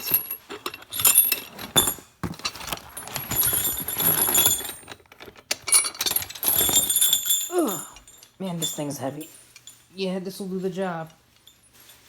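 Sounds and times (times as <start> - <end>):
steel parts clinking and rattling: 0.0 - 12.0.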